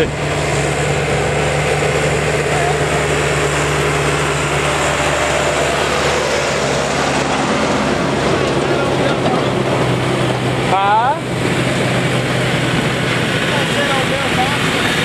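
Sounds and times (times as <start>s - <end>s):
tractor engines running: 0.0s - 15.0s
tractor passing by: 0.0s - 15.0s.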